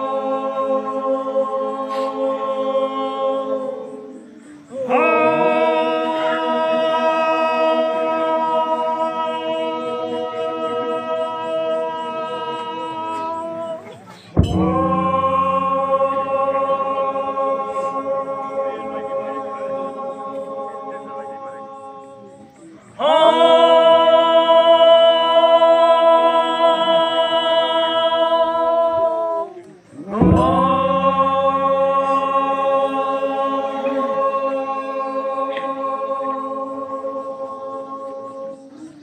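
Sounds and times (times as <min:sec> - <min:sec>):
group singing a cappella: 0:00.0 - 0:39.0.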